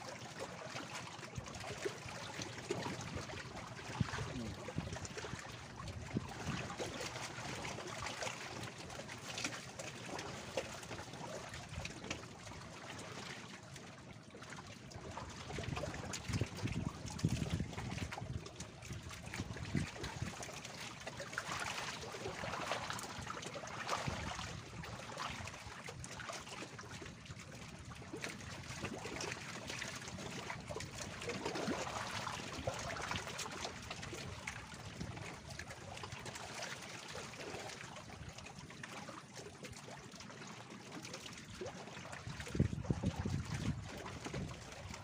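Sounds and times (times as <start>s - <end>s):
small waves lapping against raft: 0.0s - 45.0s.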